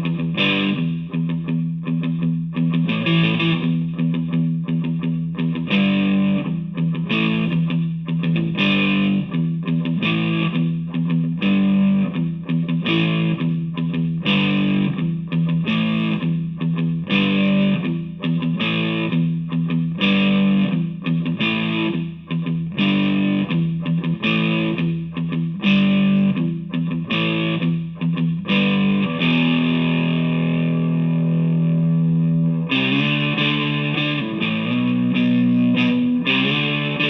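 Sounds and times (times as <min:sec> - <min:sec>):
distorted electric guitar chords: 0:00.0 - 0:37.0.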